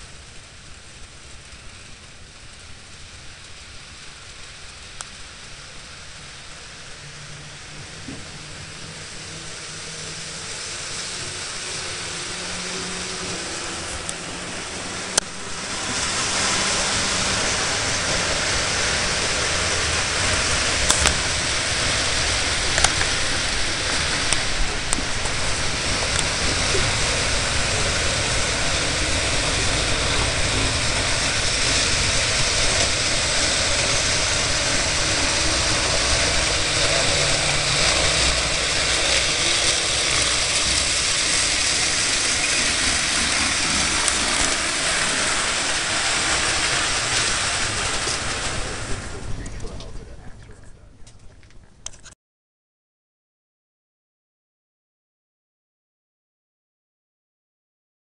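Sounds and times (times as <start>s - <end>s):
model train whirring rumble: 0.0s - 52.2s.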